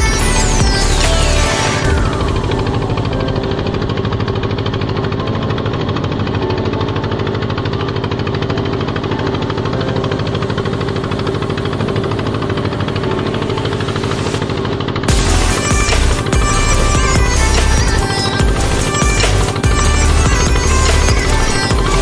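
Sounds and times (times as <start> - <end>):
boat engine running steadily: 0.0 - 22.0.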